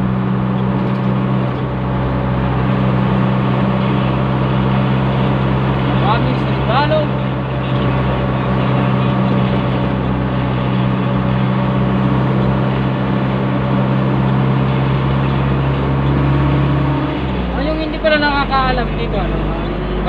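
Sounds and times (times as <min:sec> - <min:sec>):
diesel engine humming: 0:00.0 - 0:20.0
road and tyre noise: 0:00.0 - 0:20.0.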